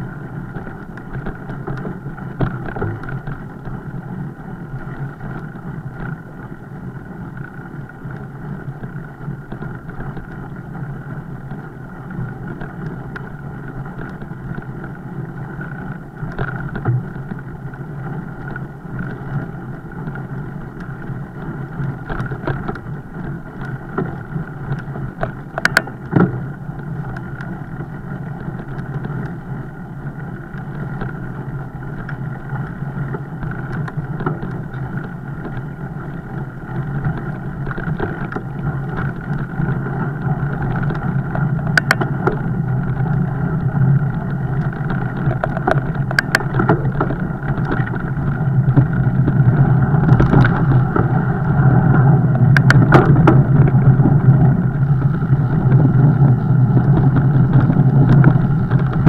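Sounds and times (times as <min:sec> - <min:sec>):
bike rolling noise: 0:00.0 - 0:59.0
low hum: 0:00.0 - 0:59.0.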